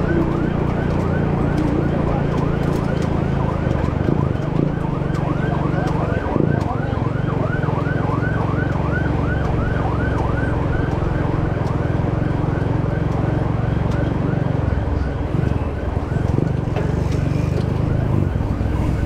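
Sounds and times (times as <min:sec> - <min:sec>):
vehicle engine running: 0:00.0 - 0:19.0
warbling siren tone: 0:00.0 - 0:19.0.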